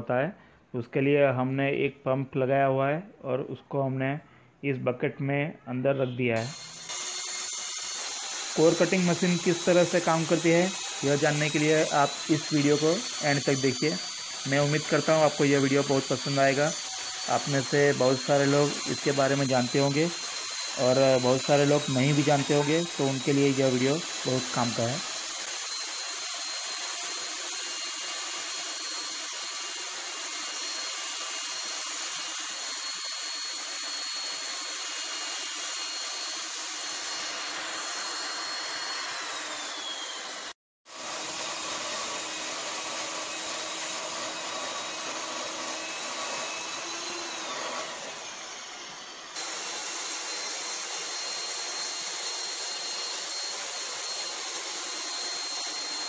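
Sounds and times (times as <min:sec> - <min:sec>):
core drill motor whine: 0:06.4 - 0:56.0
drill grinding into concrete: 0:06.4 - 0:56.0.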